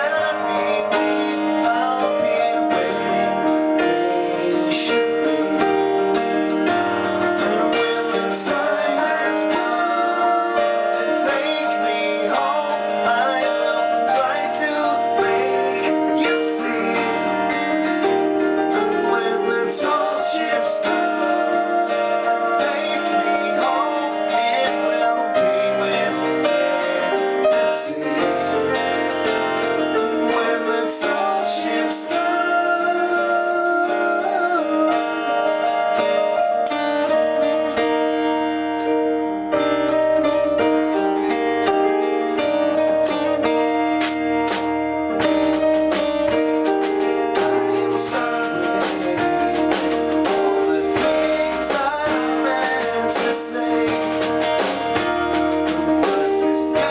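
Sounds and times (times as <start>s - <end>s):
person singing: 0.0s - 38.2s, 45.2s - 56.9s
rock band playing: 0.0s - 56.9s.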